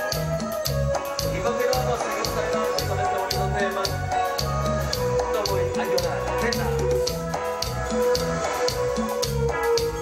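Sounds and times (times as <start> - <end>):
electric bass line: 0.0 - 10.0
held keyboard notes: 0.0 - 10.0
percussion ticking: 0.0 - 10.0.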